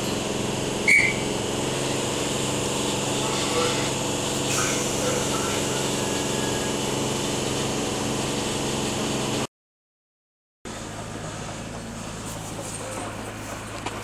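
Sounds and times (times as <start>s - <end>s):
electric train humming: 0.0s - 9.5s, 10.7s - 14.0s.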